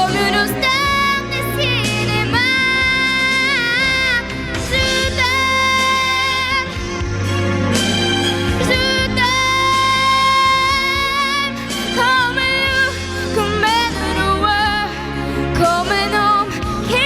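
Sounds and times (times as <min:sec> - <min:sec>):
woman singing: 0:00.0 - 0:07.2, 0:08.5 - 0:17.0
instrumental accompaniment: 0:00.0 - 0:17.0.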